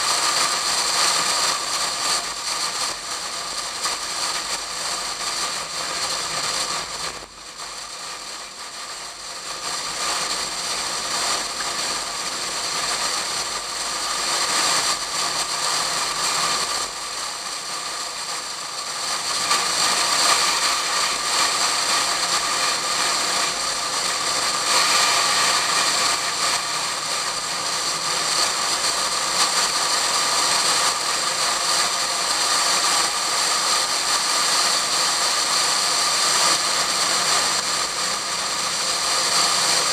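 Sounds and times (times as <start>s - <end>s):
car engine: 0.0s - 39.9s.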